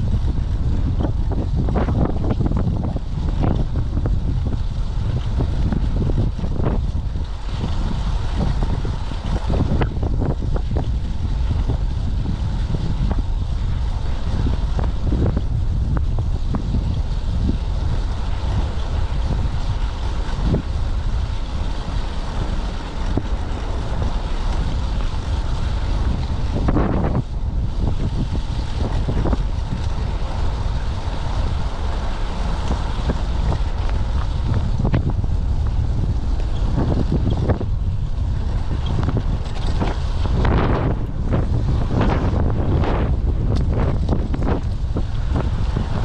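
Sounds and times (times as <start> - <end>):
strong wind buffeting microphone: 0.0 - 46.0.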